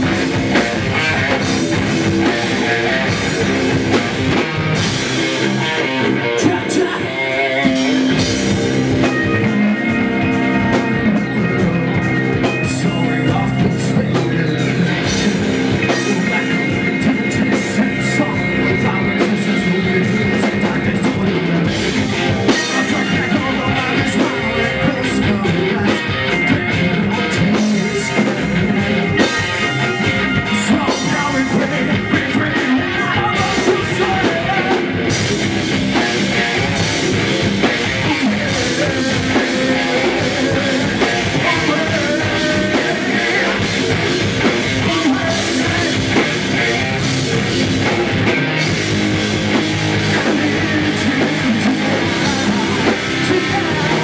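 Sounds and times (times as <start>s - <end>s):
drum kit: 0.0s - 54.0s
guitars: 0.0s - 54.0s
person singing: 0.0s - 54.0s.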